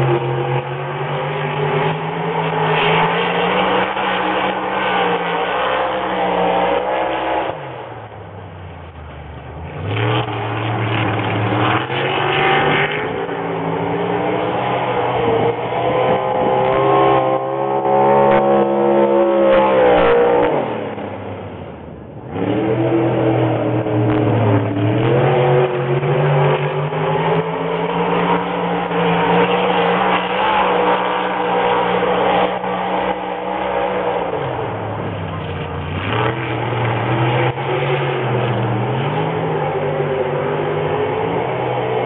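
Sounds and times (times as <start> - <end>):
race car engine: 0.0 - 42.0.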